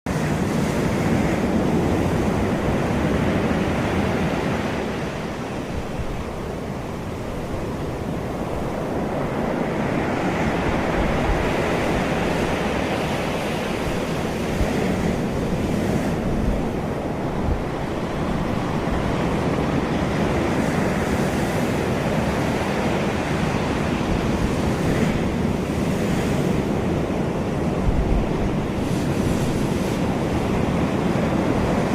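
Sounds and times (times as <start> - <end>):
waves breaking on shore: 0.1 - 31.9
wind buffeting microphone: 0.1 - 31.9.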